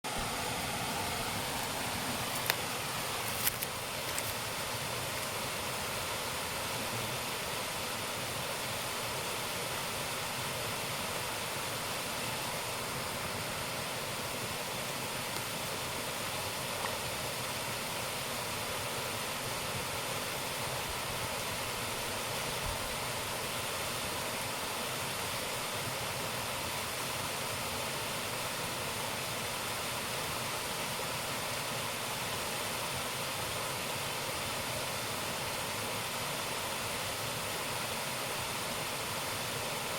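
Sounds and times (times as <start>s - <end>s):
waterfall roaring: 0.1s - 39.9s.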